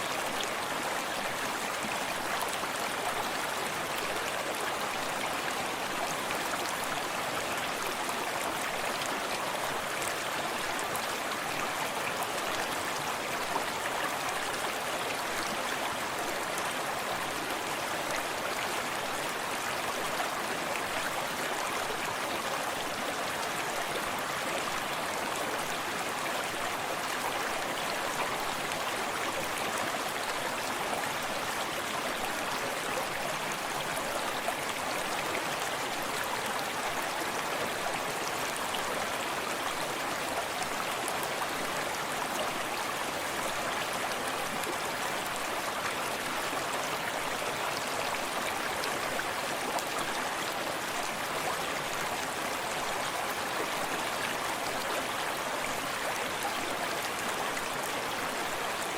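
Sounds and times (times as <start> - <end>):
small waterfall cascading: 0.0 - 58.9
stream babbling over stones: 0.0 - 58.9.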